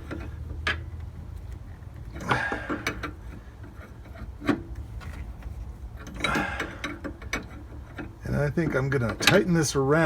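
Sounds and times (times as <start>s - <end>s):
scraping clatter: 0.0s - 9.4s.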